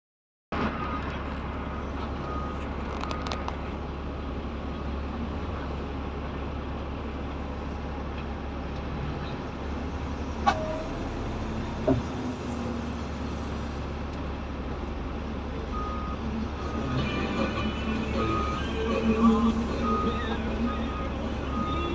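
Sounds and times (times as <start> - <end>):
diesel engine idling: 0.9 - 21.9.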